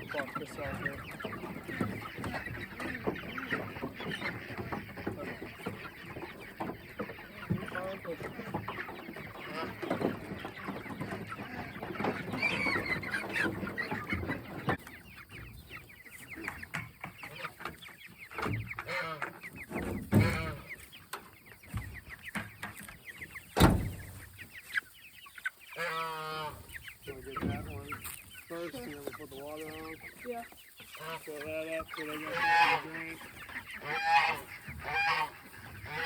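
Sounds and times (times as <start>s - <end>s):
chickens calling and clucking: 0.0s - 36.0s.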